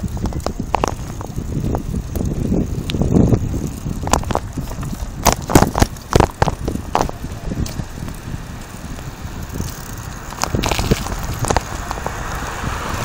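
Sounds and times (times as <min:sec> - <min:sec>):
bicycle rattling: 0:00.0 - 0:13.0
wind noise on microphone: 0:00.0 - 0:13.0.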